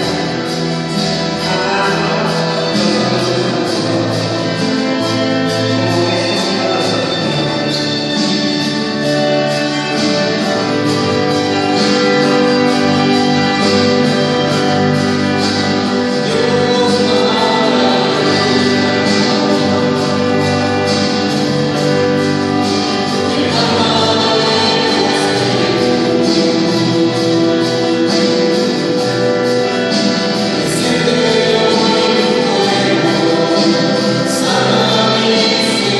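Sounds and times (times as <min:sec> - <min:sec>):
choir singing: 0:00.0 - 0:35.9
instrumental accompaniment: 0:00.0 - 0:35.9.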